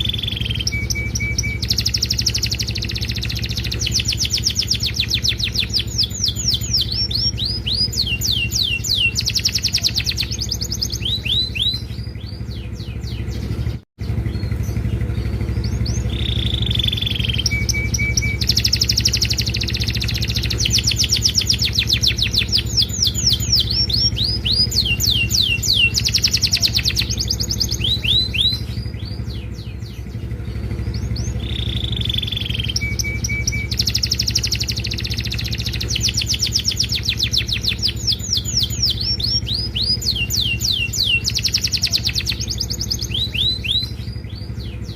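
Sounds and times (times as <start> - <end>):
canary singing trills: 0.0 - 44.9
low hum: 0.0 - 44.9.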